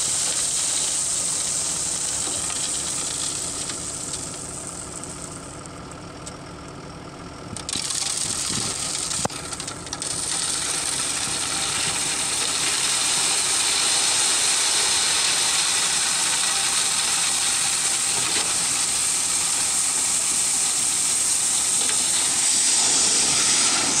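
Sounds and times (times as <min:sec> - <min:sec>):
load pouring out of truck bed: 0:00.0 - 0:05.4, 0:07.6 - 0:24.0
truck engine running: 0:00.0 - 0:24.0.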